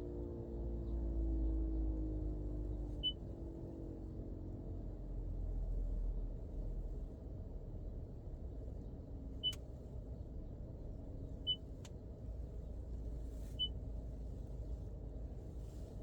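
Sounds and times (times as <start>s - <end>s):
car ventilation hum: 0.0s - 16.0s.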